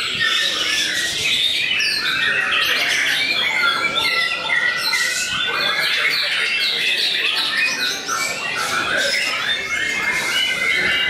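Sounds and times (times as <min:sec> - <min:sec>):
birds singing in chorus: 0:00.0 - 0:11.0.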